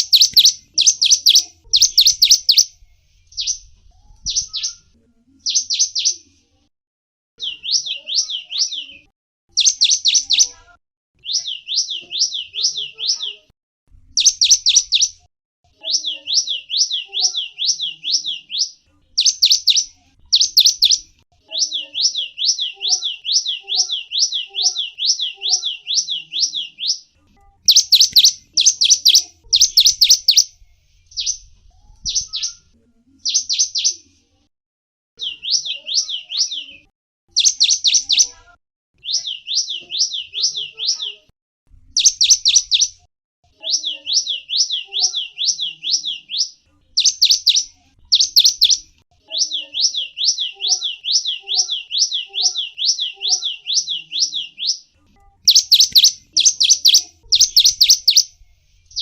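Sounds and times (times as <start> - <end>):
finch chirping: 0.0 - 4.8, 5.4 - 6.2, 7.4 - 10.6, 11.2 - 13.4, 14.2 - 15.2, 15.8 - 31.4, 33.2 - 34.0, 35.2 - 38.3, 39.0 - 41.2, 42.0 - 43.0, 43.6 - 59.0.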